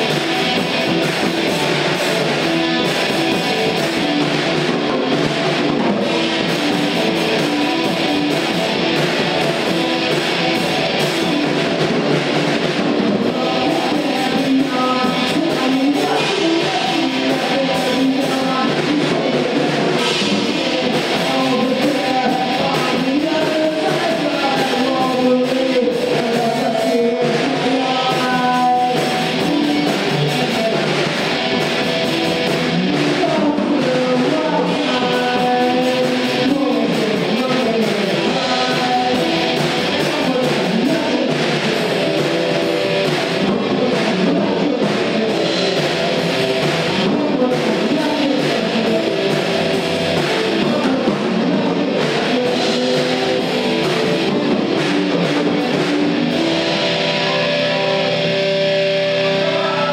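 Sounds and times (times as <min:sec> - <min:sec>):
rock song with electric guitar: 0:00.0 - 0:59.9.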